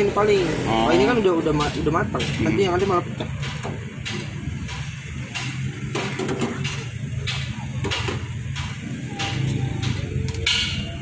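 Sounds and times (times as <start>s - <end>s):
low traffic hum: 0.0s - 11.0s.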